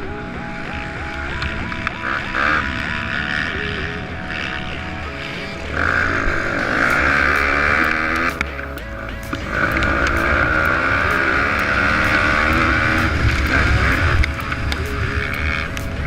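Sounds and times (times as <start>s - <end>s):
music playing: 0.0s - 16.0s
small motorbike engine buzzing: 0.0s - 16.0s.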